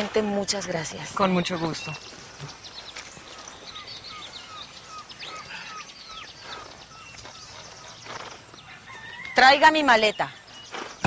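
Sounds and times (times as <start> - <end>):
high sweeping bird calls: 0.0 - 11.0
outdoor background hiss: 0.0 - 11.0.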